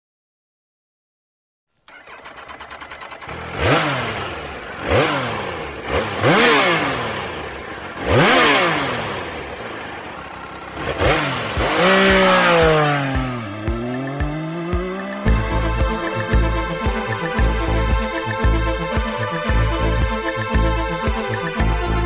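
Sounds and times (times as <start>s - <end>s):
motorcycle engine revving: 1.9s - 22.0s.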